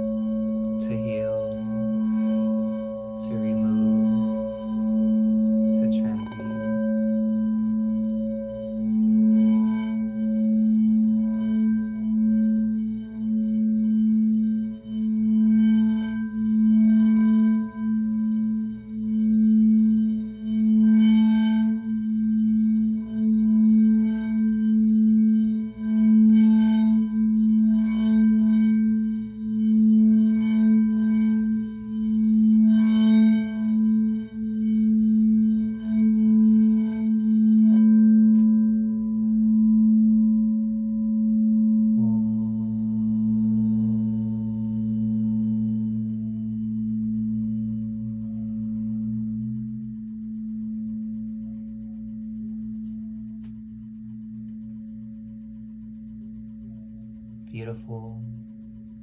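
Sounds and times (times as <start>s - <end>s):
singing bowl humming: 0.0s - 59.0s.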